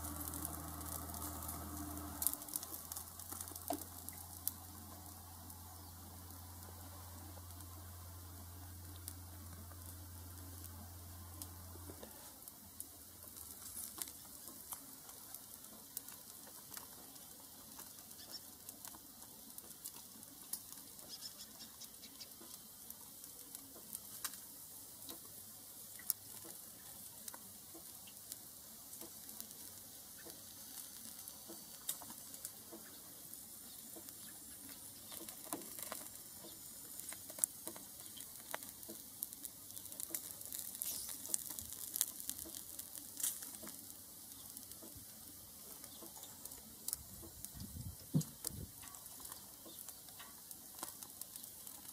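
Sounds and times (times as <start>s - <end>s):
meat sizzling with pops and crackles: 0.0s - 51.9s.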